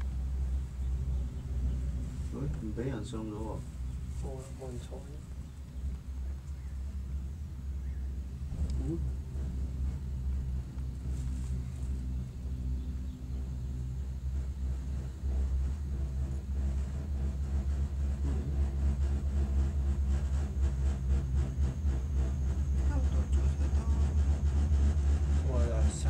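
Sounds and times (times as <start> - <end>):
cable car cabin rumbling: 0.0 - 26.0.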